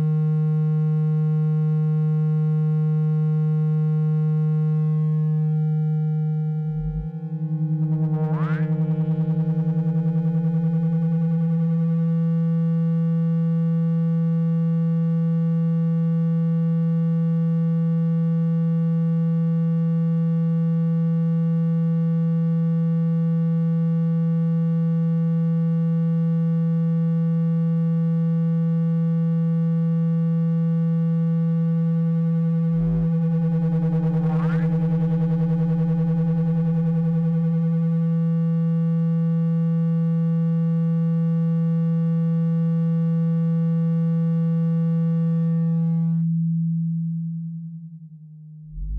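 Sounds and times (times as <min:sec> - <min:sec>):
low electronic buzzing tone: 0:00.0 - 0:48.9.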